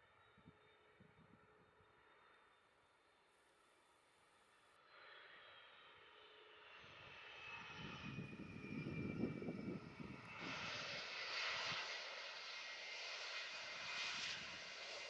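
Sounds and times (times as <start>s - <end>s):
jet engine whine: 0.1s - 15.0s.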